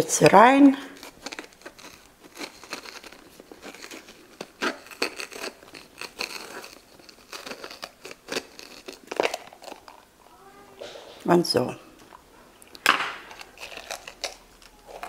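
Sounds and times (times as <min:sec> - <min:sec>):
pepper flesh crackling and snapping: 0:00.9 - 0:10.1, 0:12.0 - 0:15.0.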